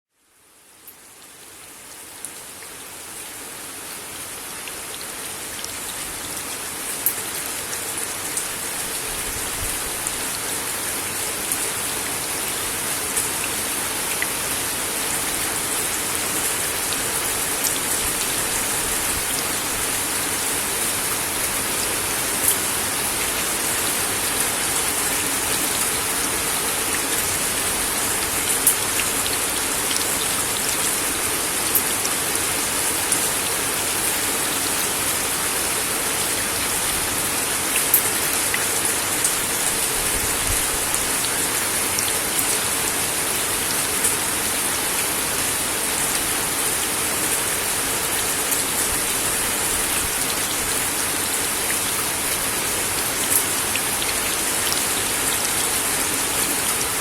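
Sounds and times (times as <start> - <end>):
rain on a wooden deck: 0.1 - 57.0.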